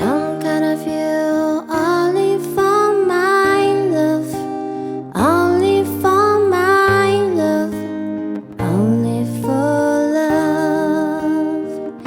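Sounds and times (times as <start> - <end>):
plucked acoustic guitar: 0.0 - 12.0
woman singing: 0.0 - 12.0.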